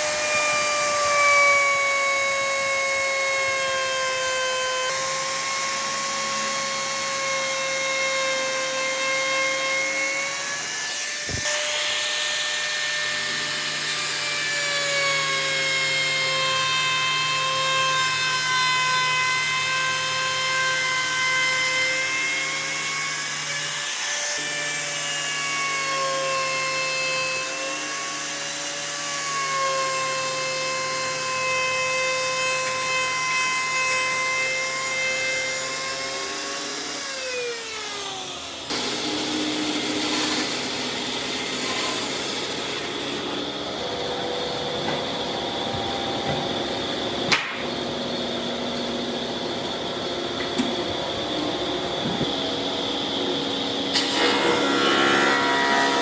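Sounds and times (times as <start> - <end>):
power tool whining on wood: 0.0 - 56.0.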